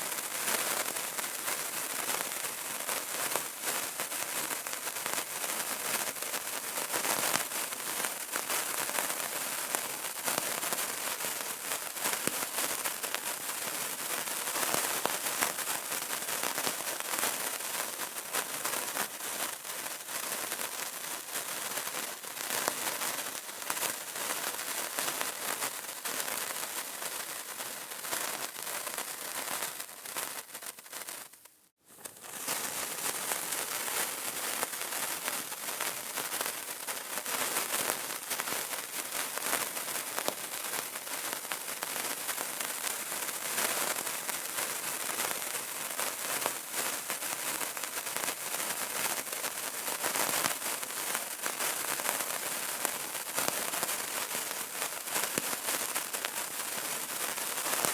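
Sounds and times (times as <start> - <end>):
candle crackling and popping: 0.0 - 57.9.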